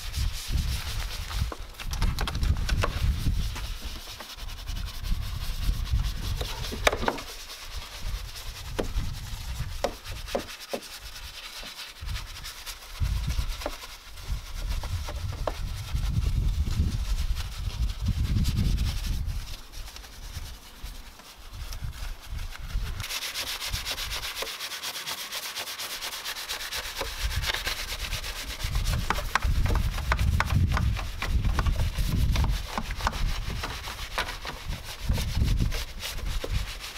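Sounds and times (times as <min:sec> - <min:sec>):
brush scrubbing plastic: 0:00.0 - 0:36.9.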